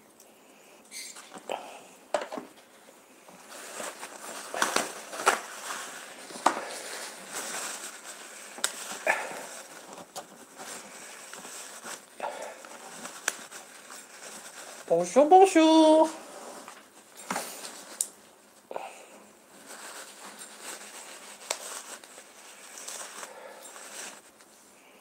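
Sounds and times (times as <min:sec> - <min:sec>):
wrapping rustling and crinkling: 0:00.0 - 0:25.0.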